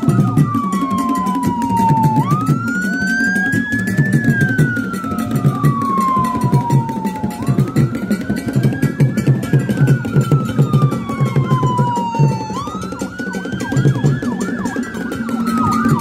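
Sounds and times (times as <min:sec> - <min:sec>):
music with fast drum beat: 0:00.0 - 0:16.0
siren wailing: 0:00.0 - 0:16.0.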